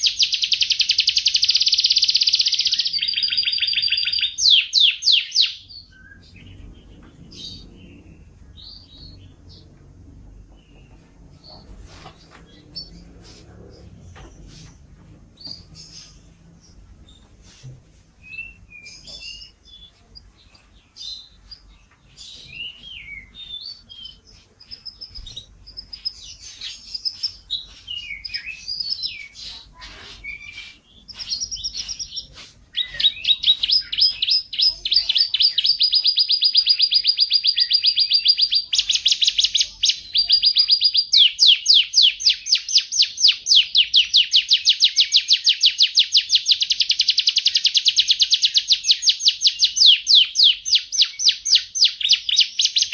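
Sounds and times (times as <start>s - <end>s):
canary singing with trills: 0.0s - 14.8s, 15.4s - 52.9s.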